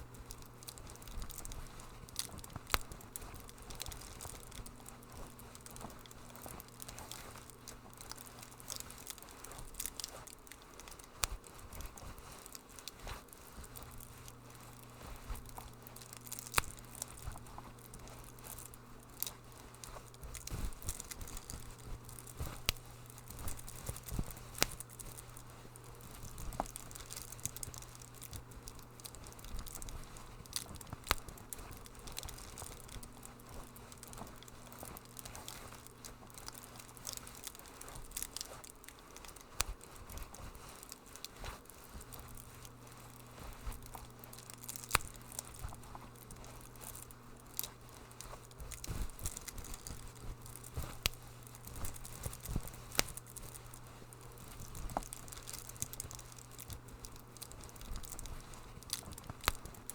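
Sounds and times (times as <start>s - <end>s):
low steady hum: 0.0s - 59.9s
wood fire crackling: 0.0s - 59.9s.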